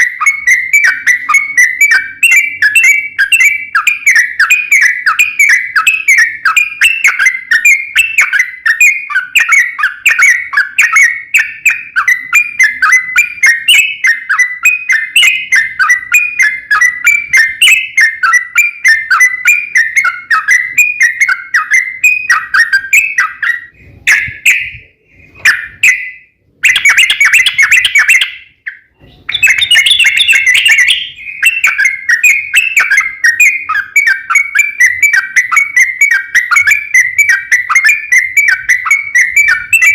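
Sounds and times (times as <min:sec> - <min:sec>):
bulbul singing warbling notes: 0:00.0 - 0:39.9.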